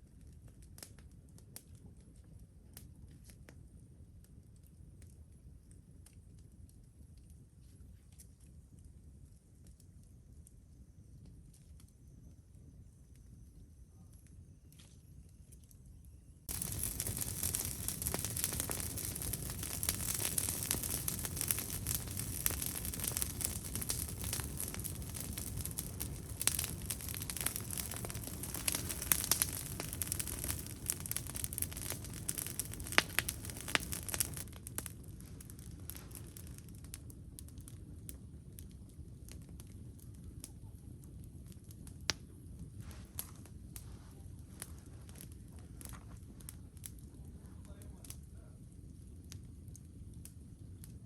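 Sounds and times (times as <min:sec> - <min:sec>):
campfire crackling and popping: 0:00.0 - 0:10.6, 0:16.4 - 0:51.0.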